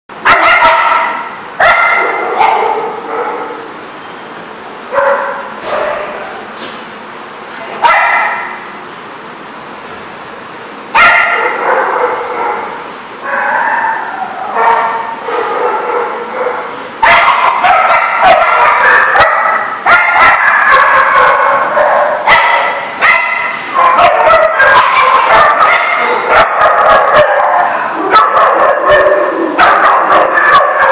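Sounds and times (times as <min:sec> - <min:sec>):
small dogs barking: 0:00.2 - 0:03.7, 0:04.9 - 0:06.2, 0:07.8 - 0:08.6, 0:11.0 - 0:30.9.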